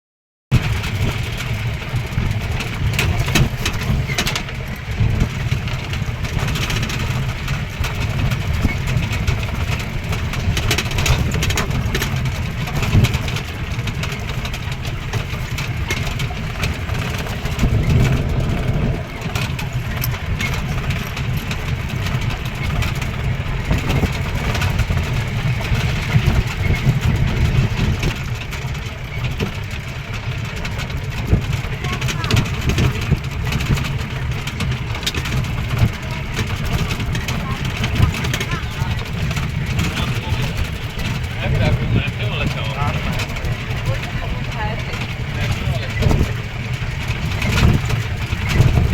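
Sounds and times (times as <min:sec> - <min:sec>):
rattles and clicks: 0:00.5 - 0:48.9
vehicle engine running: 0:00.5 - 0:48.9.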